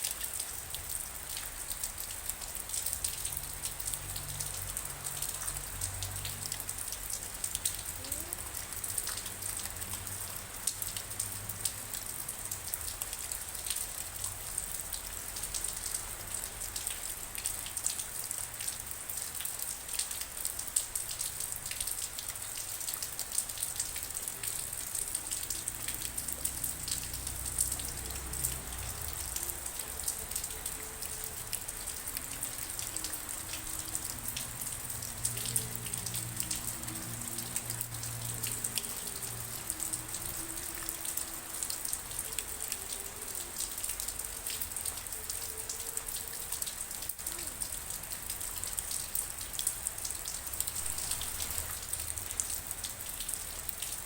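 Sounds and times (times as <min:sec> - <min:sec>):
rain with ticking drops: 0:00.0 - 0:54.0.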